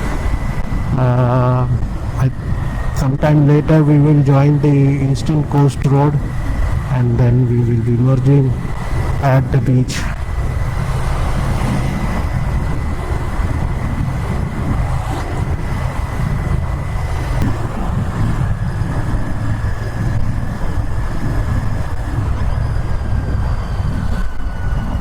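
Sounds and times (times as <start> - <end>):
motorcycle engine droning: 0.0 - 25.0
road and wind noise: 0.0 - 25.0.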